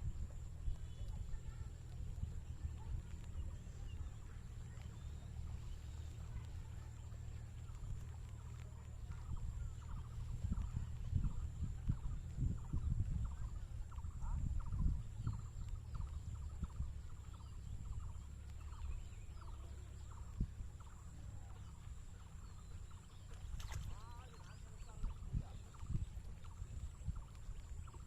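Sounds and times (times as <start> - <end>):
low thumps and rumble: 0.0 - 28.0.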